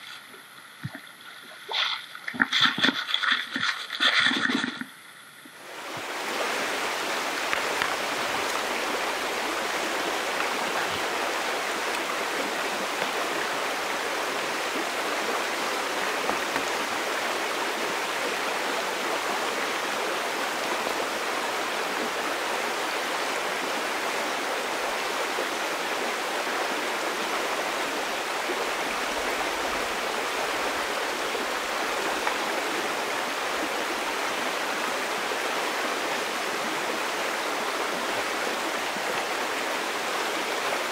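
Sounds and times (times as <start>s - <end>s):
river water running over stones: 0.0s - 40.9s.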